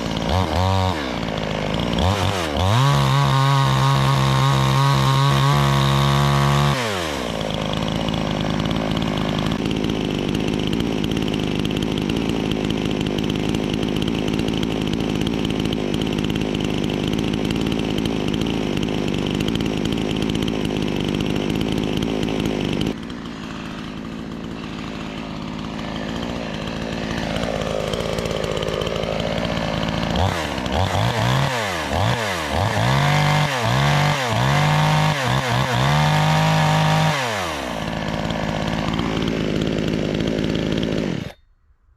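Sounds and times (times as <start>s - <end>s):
chainsaw engine revving and idling: 0.0s - 41.4s.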